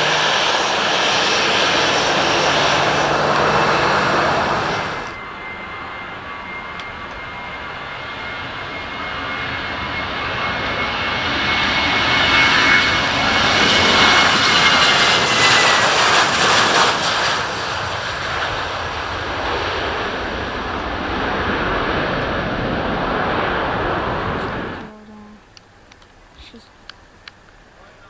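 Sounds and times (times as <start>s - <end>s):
jet engine roar and whine: 0.0s - 28.0s.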